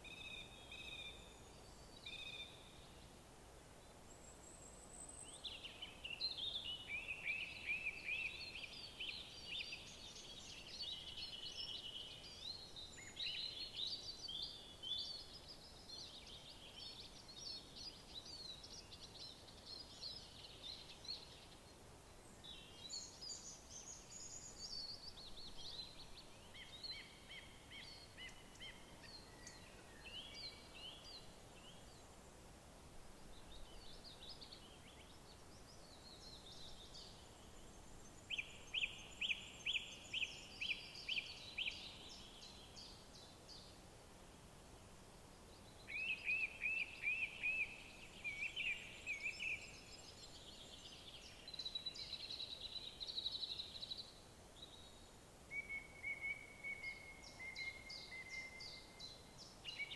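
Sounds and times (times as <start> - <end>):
songbirds singing: 0.0 - 3.2, 3.8 - 32.4, 33.2 - 43.8, 44.7 - 59.9
faint background hiss: 0.0 - 59.9.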